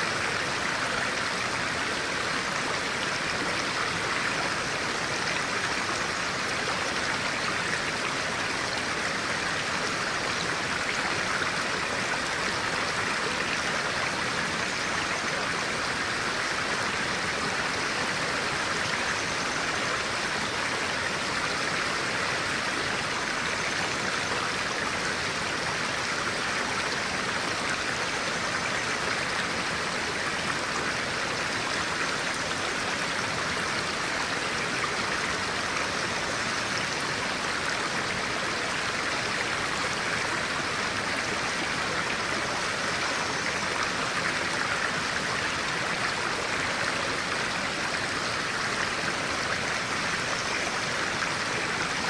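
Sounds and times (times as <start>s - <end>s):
stream running: 0.0s - 52.0s.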